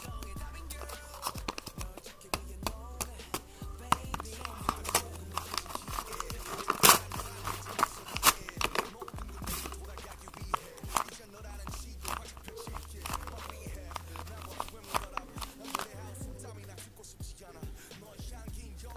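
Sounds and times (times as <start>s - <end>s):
packaging tearing and crinkling: 0.0s - 16.2s
background music: 0.0s - 18.9s.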